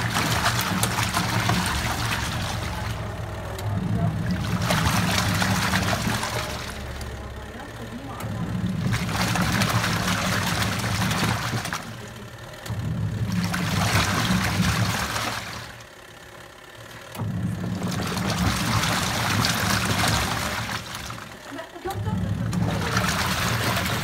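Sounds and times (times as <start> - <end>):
water churning and sloshing: 0.0 - 16.0, 17.1 - 24.0
washing machine motor hum: 0.0 - 24.0.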